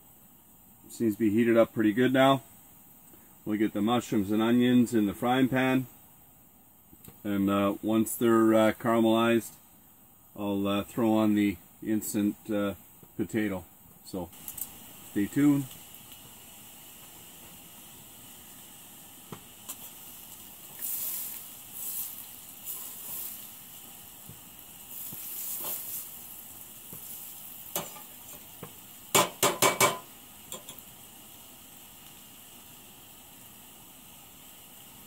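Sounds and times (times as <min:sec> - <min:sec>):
food sizzling in a frying pan: 0:00.0 - 0:09.6, 0:10.3 - 0:35.0
gas burner hissing: 0:00.0 - 0:35.0.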